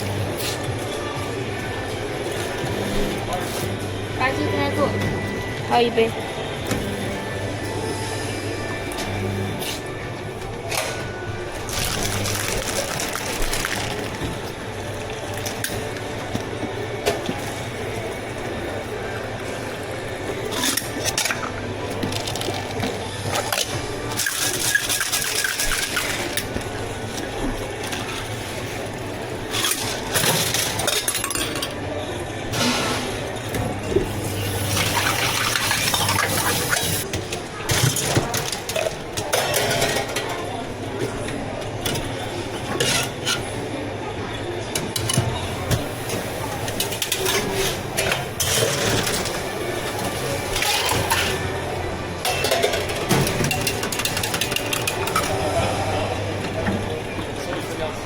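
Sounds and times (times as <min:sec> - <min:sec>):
drink-making items clinking: 0:00.0 - 0:58.0.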